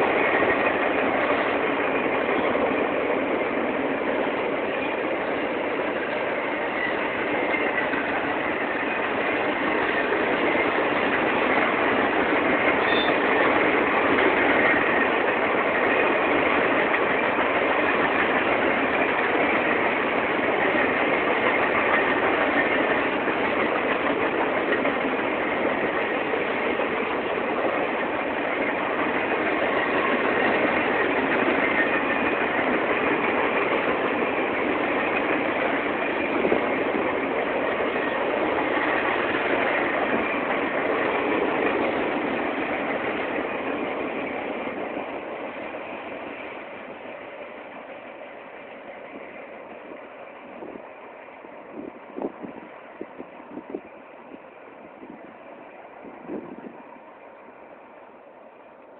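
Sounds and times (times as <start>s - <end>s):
train wheels on rails: 0.0s - 58.9s.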